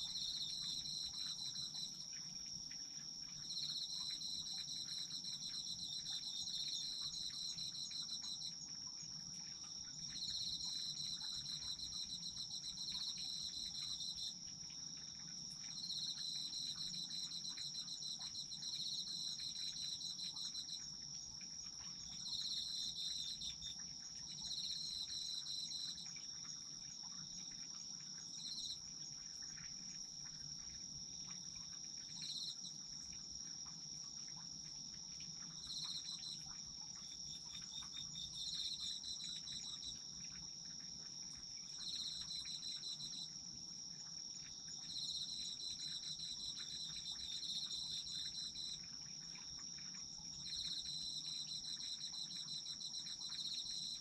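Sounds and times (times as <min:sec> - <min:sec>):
cricket pulsed chirping: 0:00.0 - 0:54.0.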